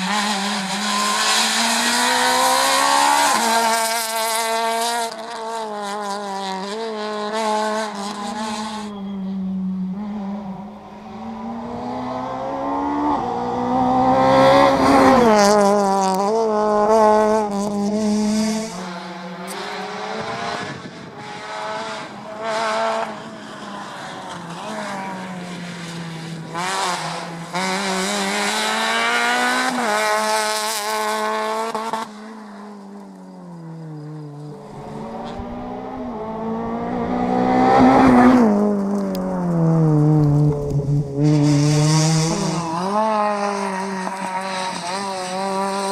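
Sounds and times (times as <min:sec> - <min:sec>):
rally car engines at full throttle: 0:00.0 - 0:45.9.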